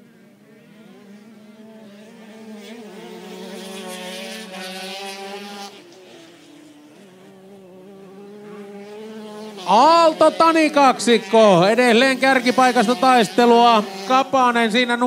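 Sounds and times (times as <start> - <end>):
distant motorcycle droning: 0.0 - 15.0
motorcycle buzzing at high revs: 0.0 - 15.0.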